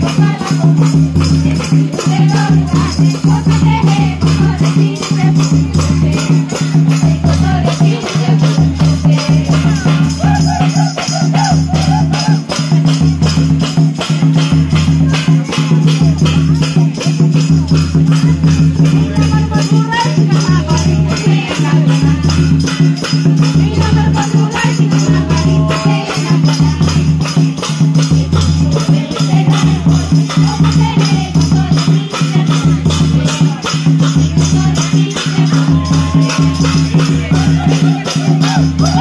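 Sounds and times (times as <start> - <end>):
person singing: 0.0 - 13.2, 17.6 - 27.6, 28.2 - 39.0
pulsing bass beat: 0.0 - 39.0
ticking percussion: 0.0 - 39.0.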